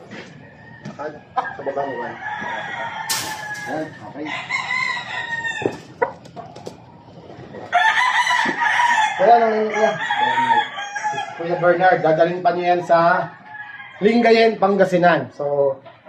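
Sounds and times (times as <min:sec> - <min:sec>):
roosters crowing: 0:00.0 - 0:15.8.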